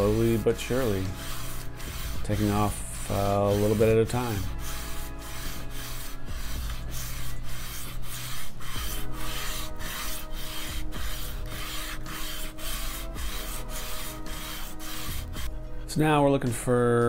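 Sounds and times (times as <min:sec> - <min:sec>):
wood scraping on sandpaper: 0:00.0 - 0:16.0.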